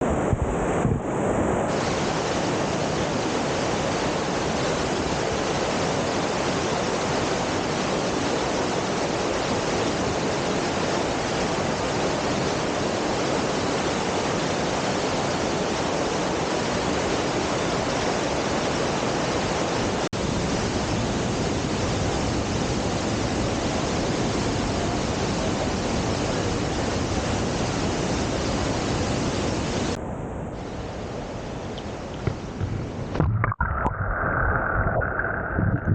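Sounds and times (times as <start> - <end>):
waterfall roaring: 0.1 - 30.0.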